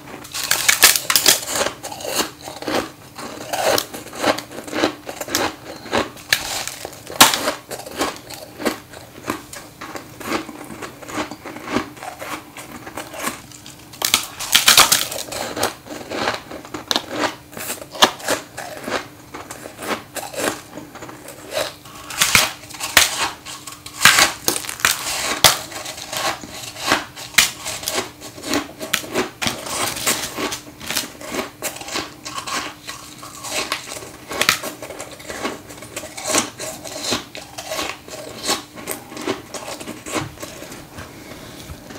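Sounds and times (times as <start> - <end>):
chewing crunchy ice: 0.1 - 40.7.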